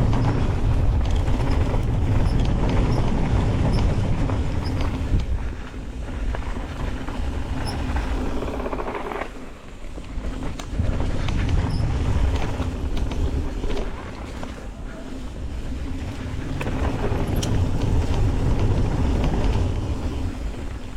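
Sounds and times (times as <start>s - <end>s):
bike clicks and rattles: 0.0s - 20.9s
tyre and trail noise: 0.0s - 20.9s
wind rumble on microphone: 0.0s - 20.9s.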